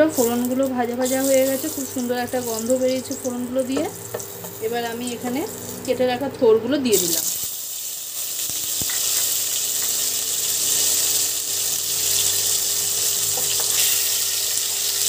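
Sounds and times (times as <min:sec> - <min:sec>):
food sizzling in hot oil: 0:00.0 - 0:06.0, 0:06.9 - 0:15.0.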